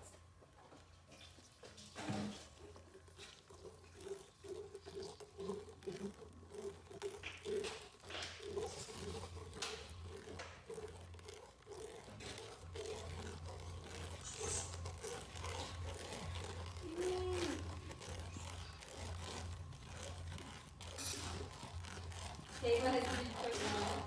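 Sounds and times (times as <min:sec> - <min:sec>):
metal spoon scraping a bowl: 0:03.2 - 0:24.0.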